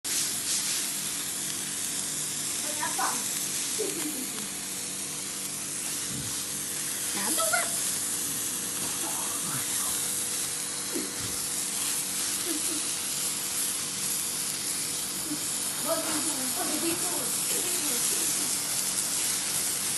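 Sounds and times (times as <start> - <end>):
firework fizzing hiss: 0.1 - 19.9.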